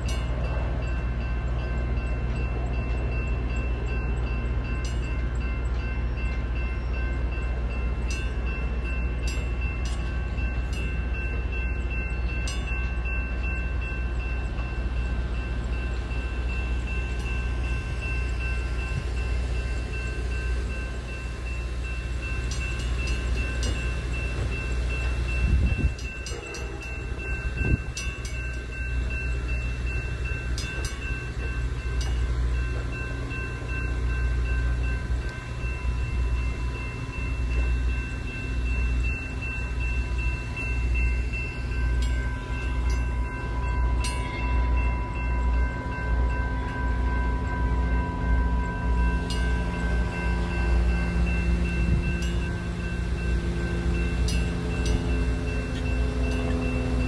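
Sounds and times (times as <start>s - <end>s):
railroad crossing bell ringing: 0.0s - 57.0s.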